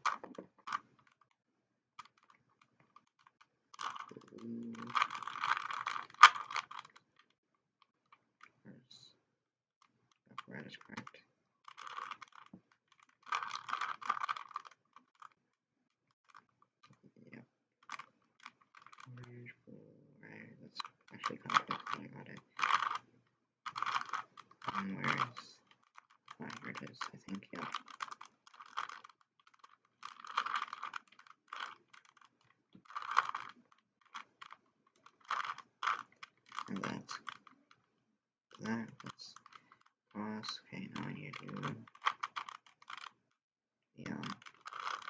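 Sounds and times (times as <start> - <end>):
puzzle cube plastic clicks: 0.0 - 1.4, 2.0 - 8.5, 9.8 - 15.6, 16.2 - 17.0, 17.8 - 19.3, 20.8 - 37.9, 38.5 - 43.2, 44.0 - 45.0.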